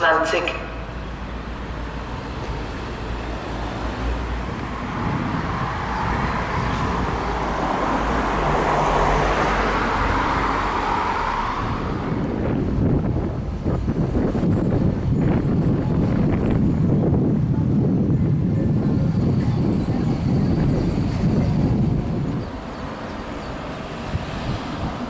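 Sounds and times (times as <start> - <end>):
vehicle passing: 1.3 - 25.0.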